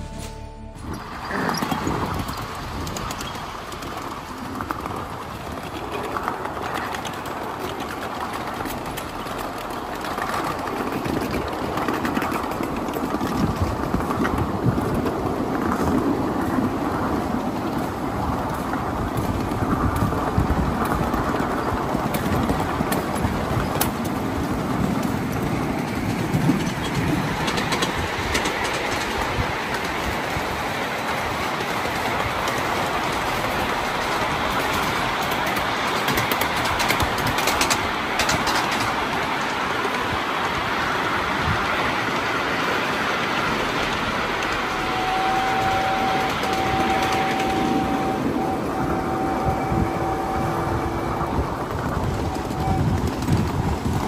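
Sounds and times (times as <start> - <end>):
steam train running: 0.0 - 54.0
wheels clattering over rails: 0.0 - 54.0.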